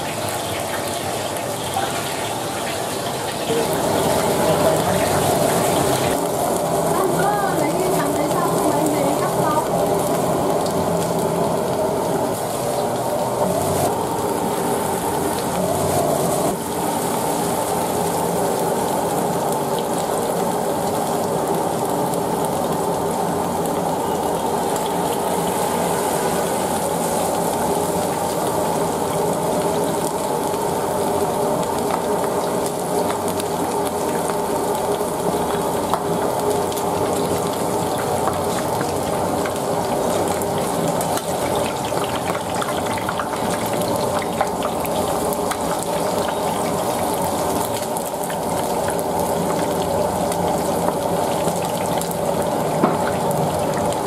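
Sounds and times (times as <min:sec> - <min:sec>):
deep-frying sizzle in oil: 0:00.0 - 0:54.0.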